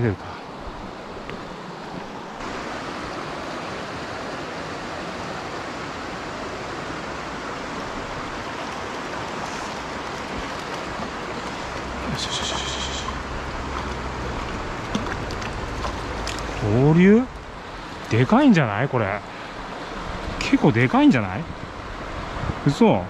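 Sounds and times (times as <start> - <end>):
stream flowing over stones: 0.0 - 22.7.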